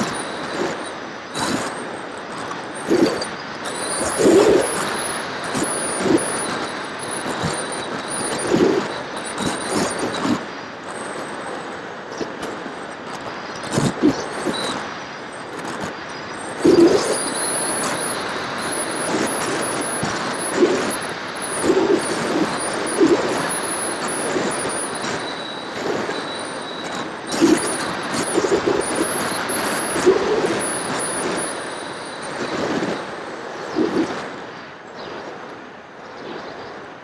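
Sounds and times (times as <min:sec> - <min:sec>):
high thin electric motor whine: 0:00.0 - 0:11.5, 0:15.5 - 0:34.2
wind rushing on microphone: 0:00.0 - 0:37.0.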